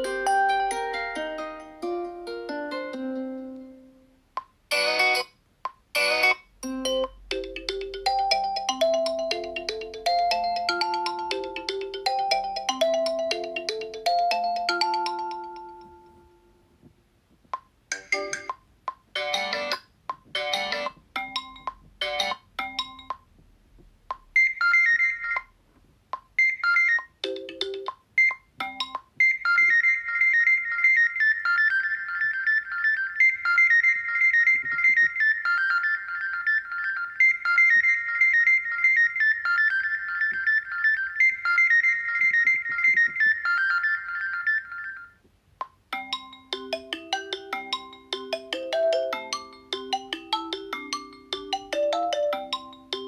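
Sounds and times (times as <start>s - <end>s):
high-pitched ringtone melody: 0.0s - 4.0s, 4.7s - 5.4s, 6.0s - 16.7s, 17.9s - 18.6s, 19.2s - 19.8s, 20.4s - 23.2s, 24.4s - 25.5s, 26.4s - 45.2s, 45.9s - 53.0s.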